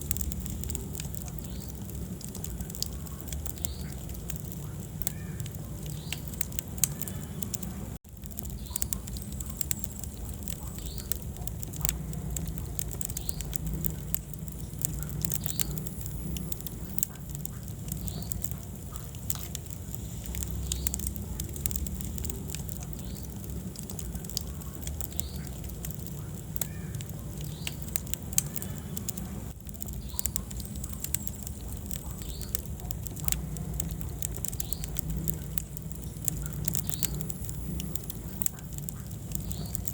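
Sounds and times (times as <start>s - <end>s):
low rumble of burning: 0.0s - 39.9s
wood fire crackling and popping: 0.0s - 39.9s.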